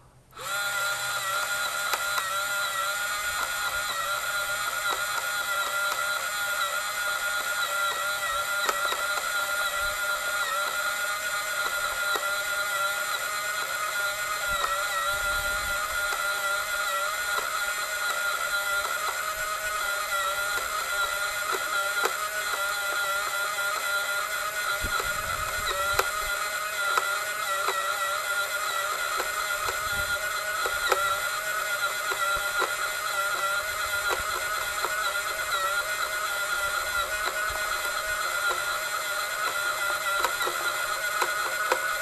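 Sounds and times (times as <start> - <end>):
electric motor whining: 0.3 - 42.0.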